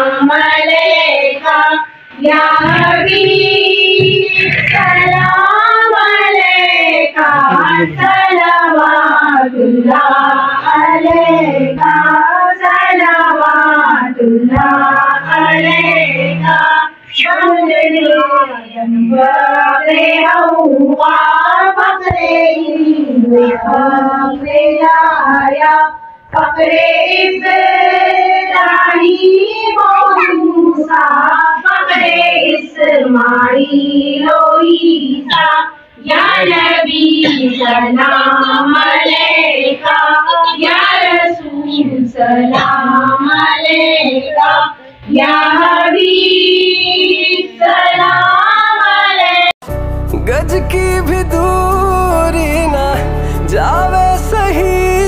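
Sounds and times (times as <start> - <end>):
women singing: 0.0 - 49.6.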